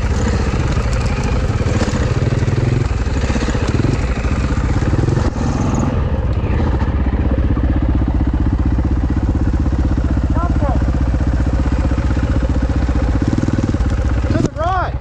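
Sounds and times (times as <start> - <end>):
dirt bike engine idling: 0.0 - 15.0.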